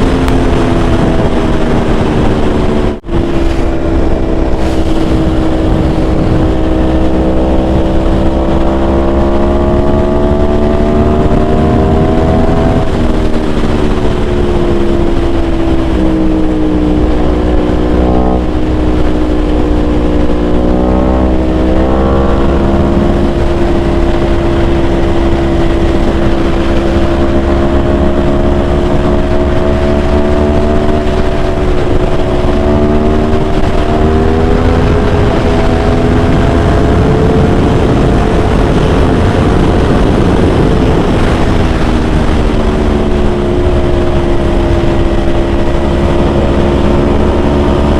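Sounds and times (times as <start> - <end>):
motorcycle engine revving: 0.0 - 47.9
rush of noise: 0.0 - 47.9.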